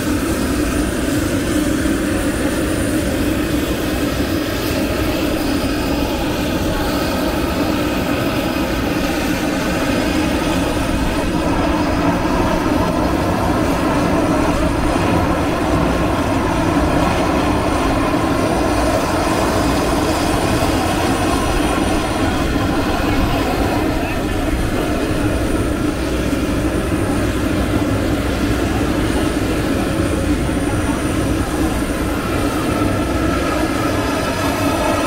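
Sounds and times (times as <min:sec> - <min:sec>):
aircraft engines droning: 0:00.0 - 0:35.0.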